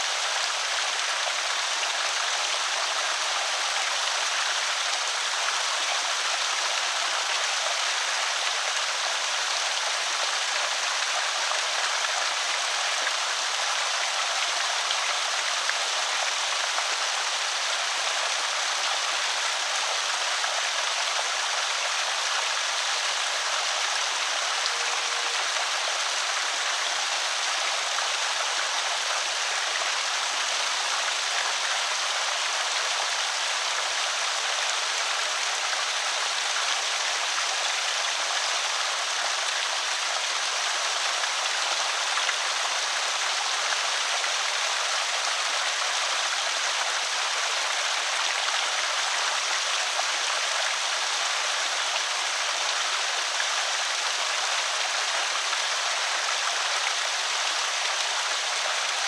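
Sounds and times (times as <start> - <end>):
water rushing over spillway: 0.0 - 59.0.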